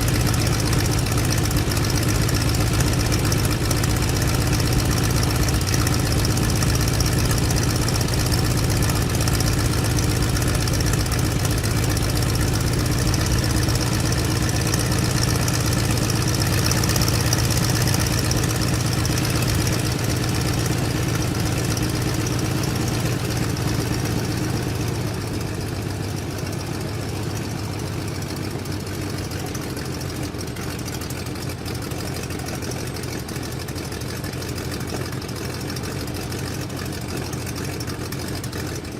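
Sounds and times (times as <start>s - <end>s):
radial engine idling: 0.0s - 38.9s.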